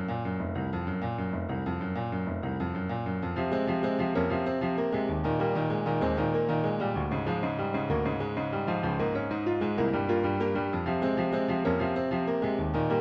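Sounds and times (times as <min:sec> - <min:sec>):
piano repeating chords: 0:00.0 - 0:13.0.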